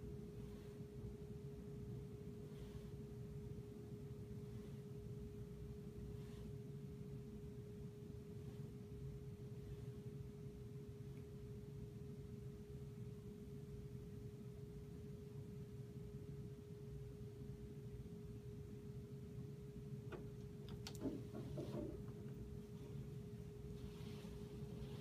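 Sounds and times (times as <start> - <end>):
faint steady hum: 0.0 - 25.0
low rumble of room noise: 0.0 - 25.0.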